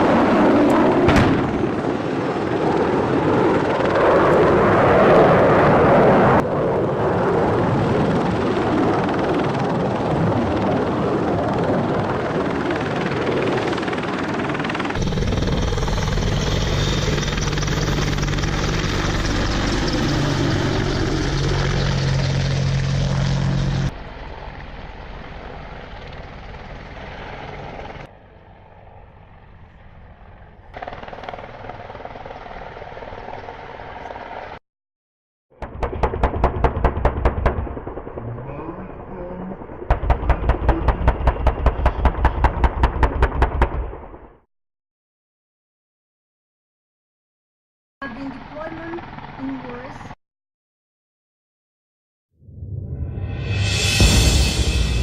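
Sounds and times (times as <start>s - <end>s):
helicopter rotor and engine: 0.0s - 34.6s, 35.6s - 44.4s, 48.0s - 50.2s.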